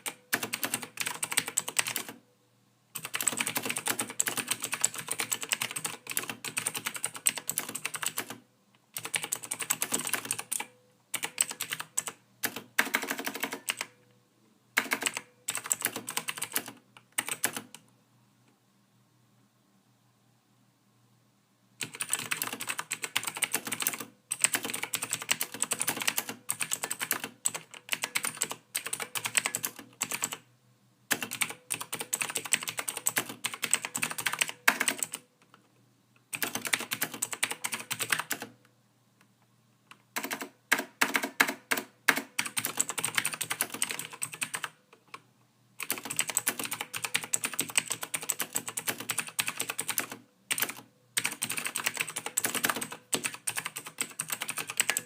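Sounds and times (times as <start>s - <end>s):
typing on a computer keyboard: 0.0s - 2.2s, 2.9s - 14.0s, 14.8s - 17.8s, 21.8s - 30.4s, 31.1s - 35.6s, 36.2s - 38.6s, 39.9s - 45.2s, 45.8s - 55.0s.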